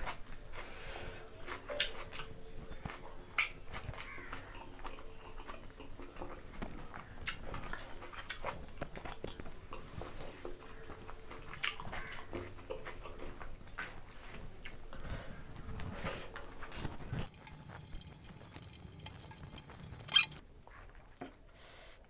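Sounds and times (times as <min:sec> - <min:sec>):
close-up chewing: 0:00.0 - 0:21.3.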